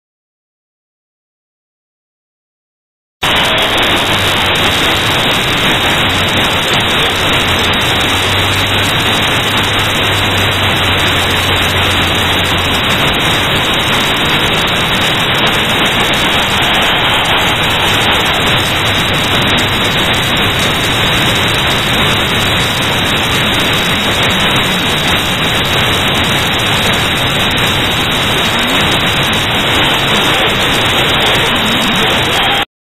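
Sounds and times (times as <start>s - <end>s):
static-like hiss: 3.2s - 32.7s.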